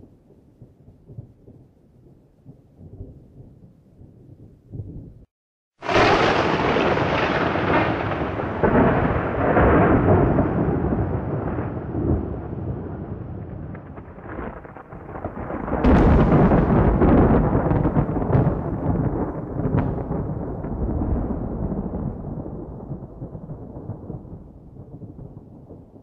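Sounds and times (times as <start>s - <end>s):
thunder clap and rumble: 0.0s - 26.0s.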